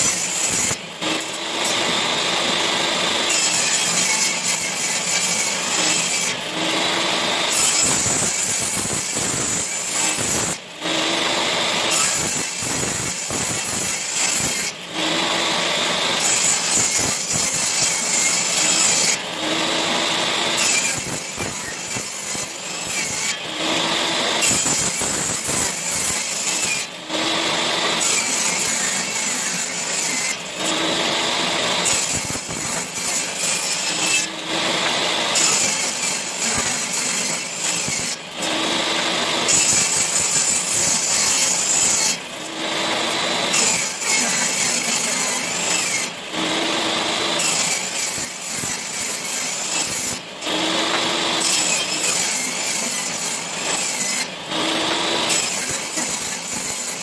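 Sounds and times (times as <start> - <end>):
power saw cutting wood: 0.0 - 57.0.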